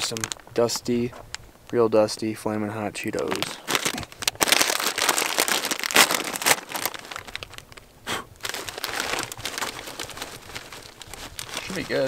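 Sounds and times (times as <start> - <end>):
plastic snack bag crinkling: 0.0 - 1.4, 3.1 - 12.0.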